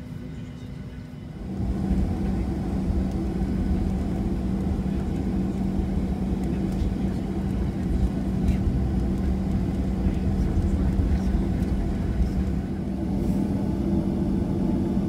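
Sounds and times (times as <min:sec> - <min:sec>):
airliner cabin rumble and hum: 0:00.0 - 0:15.0.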